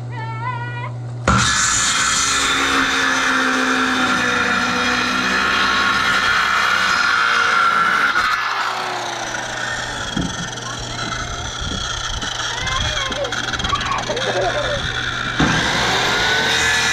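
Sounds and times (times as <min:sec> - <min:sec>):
circular saw cutting wood: 0:01.3 - 0:16.9.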